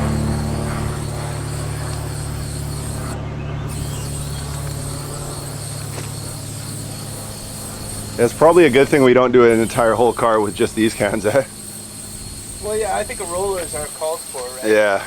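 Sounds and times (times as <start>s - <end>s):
low engine drone: 0.0s - 14.5s
faint hiss: 0.0s - 15.0s.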